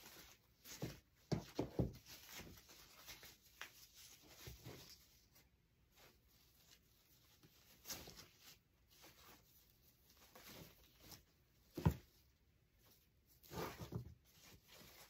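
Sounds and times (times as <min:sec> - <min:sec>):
ribbon rustling and crinkling: 0:00.0 - 0:12.1.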